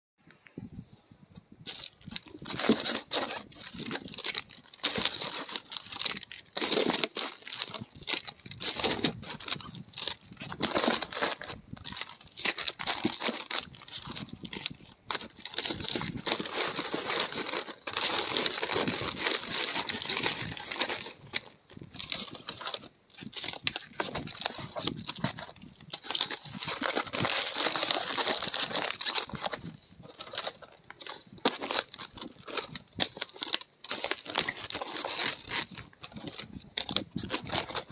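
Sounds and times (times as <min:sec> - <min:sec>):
packaging crinkling: 0:01.6 - 0:37.9.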